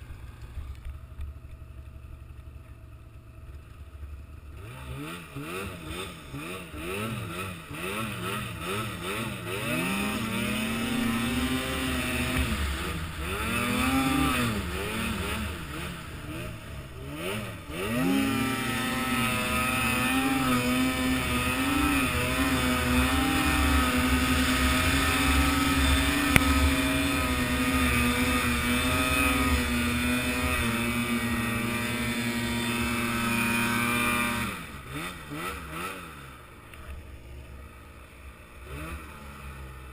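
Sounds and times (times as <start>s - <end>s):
small engine revving: 4.4s - 39.9s.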